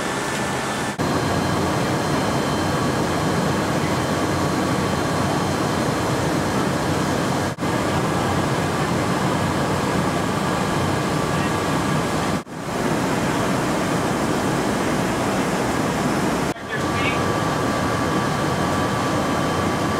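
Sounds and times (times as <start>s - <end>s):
aircraft engine and air rush: 0.0s - 19.9s
faint whine: 0.0s - 19.9s.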